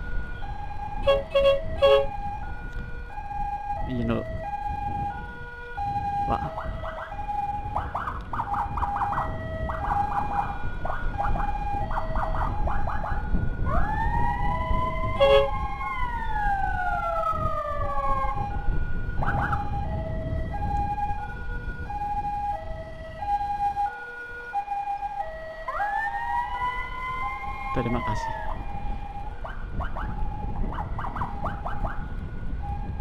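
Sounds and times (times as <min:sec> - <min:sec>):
siren wail: 0:00.0 - 0:33.0
two-tone siren: 0:00.0 - 0:33.0
wind: 0:00.0 - 0:33.0
siren yelps: 0:00.4 - 0:33.0.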